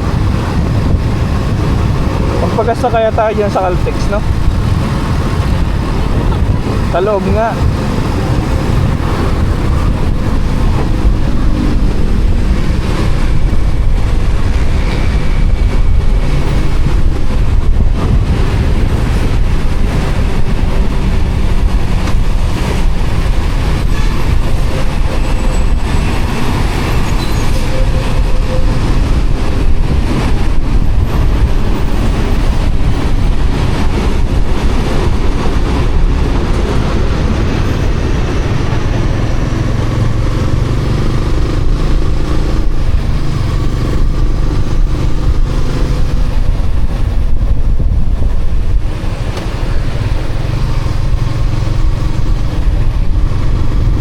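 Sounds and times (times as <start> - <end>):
motorcycle running: 0.0 - 54.0
wind and road noise on microphone: 0.0 - 54.0.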